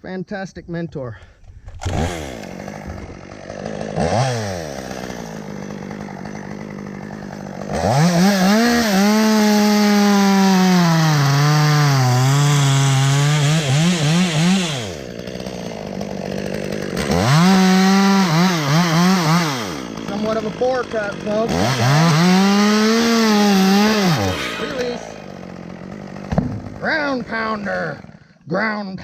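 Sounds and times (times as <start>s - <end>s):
chainsaw revving and cutting wood: 1.3s - 28.8s.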